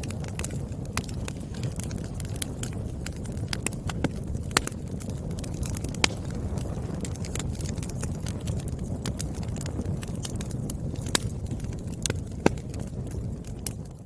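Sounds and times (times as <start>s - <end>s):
burning logs rumbling: 0.0s - 14.0s
fire popping and snapping: 0.0s - 14.0s.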